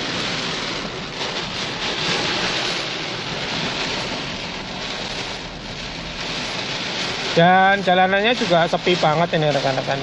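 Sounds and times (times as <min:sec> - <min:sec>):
heavy rain and wind on car: 0:00.0 - 0:10.0.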